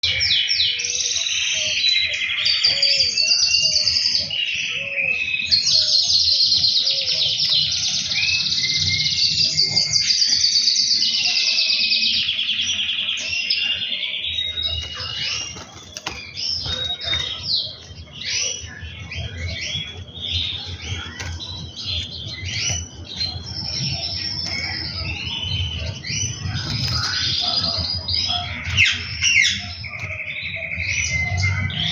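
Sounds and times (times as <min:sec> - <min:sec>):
canary singing trills: 0:00.0 - 0:31.9.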